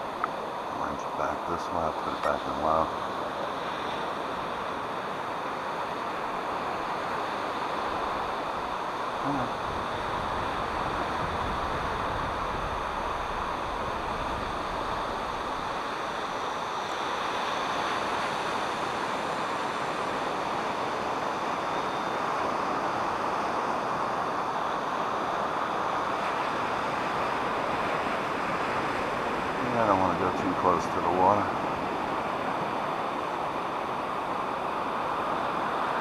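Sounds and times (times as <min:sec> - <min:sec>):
ocean surf: 0:00.0 - 0:36.0
wind: 0:00.0 - 0:36.0.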